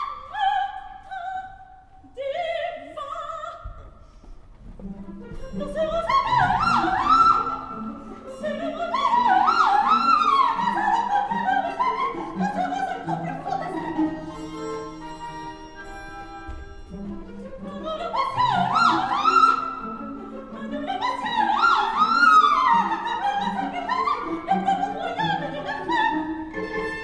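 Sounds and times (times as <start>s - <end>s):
opera orchestra: 0.0s - 27.0s.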